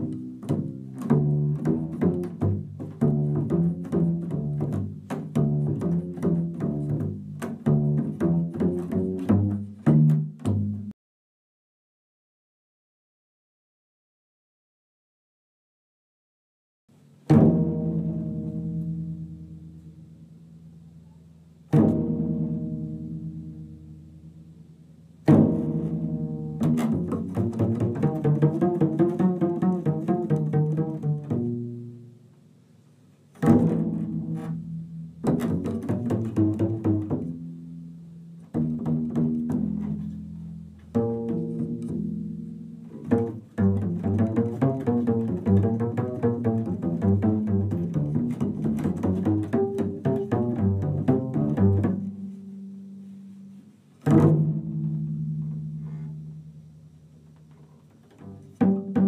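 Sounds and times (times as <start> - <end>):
plucked double bass: 0.0 - 11.0, 17.0 - 59.0.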